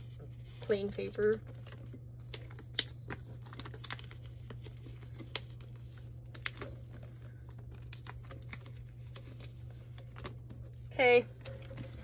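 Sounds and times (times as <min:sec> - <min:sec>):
paper crinkling: 0:00.0 - 0:12.0.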